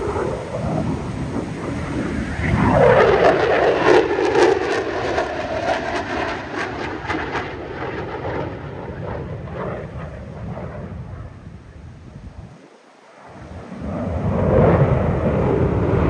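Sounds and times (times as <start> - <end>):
fighter jet roaring past: 0.0 - 16.0.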